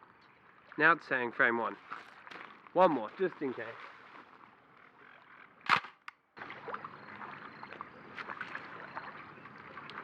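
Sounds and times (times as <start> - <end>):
faint outdoor background: 0.0 - 10.0.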